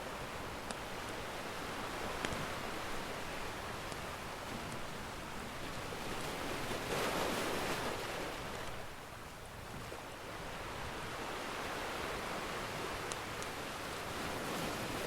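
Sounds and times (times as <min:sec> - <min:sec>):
ocean waves washing ashore: 0:00.0 - 0:15.0.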